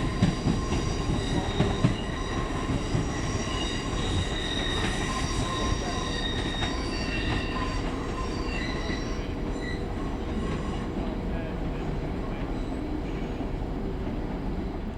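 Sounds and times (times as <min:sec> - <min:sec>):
train wheels squealing: 0:00.0 - 0:13.7
train rumble: 0:00.0 - 0:14.9.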